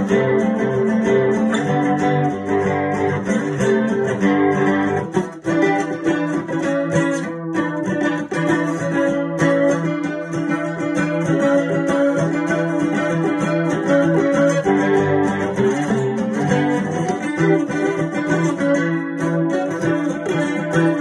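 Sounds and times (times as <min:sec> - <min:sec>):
acoustic guitar plucked chords: 0:00.0 - 0:21.0.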